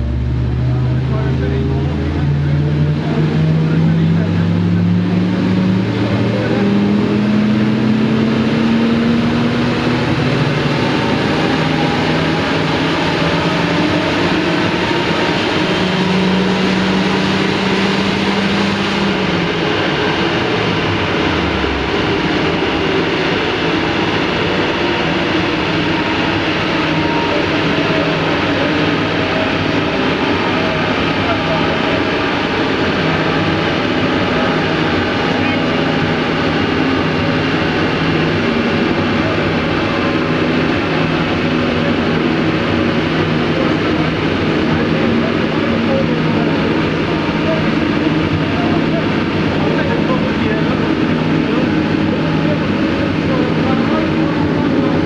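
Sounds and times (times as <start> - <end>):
car engine running hard: 0.0 - 55.0
loud steady rushing noise: 0.0 - 55.0.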